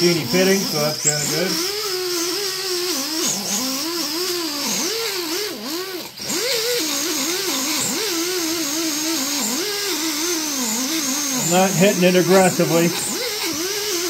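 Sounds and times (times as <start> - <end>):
air tool whining while buffing: 0.0 - 14.0.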